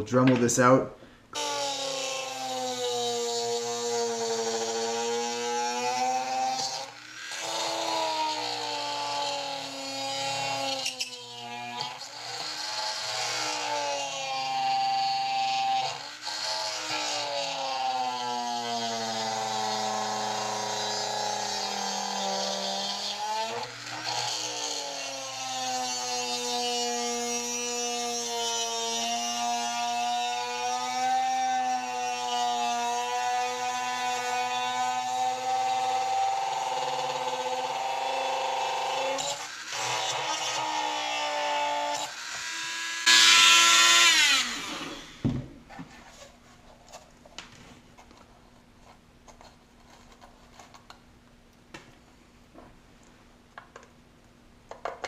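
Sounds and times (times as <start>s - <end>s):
rotary tool grinding plastic: 1.4s - 47.1s.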